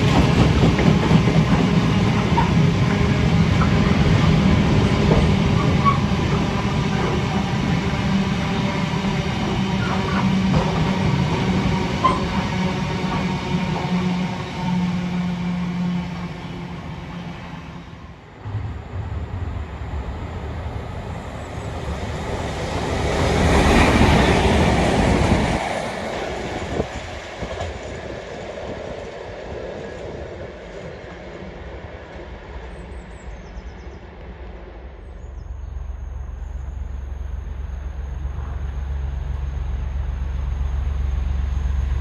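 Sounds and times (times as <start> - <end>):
train engine hum: 0.0 - 42.0
train wheels rumbling on rails: 0.0 - 42.0.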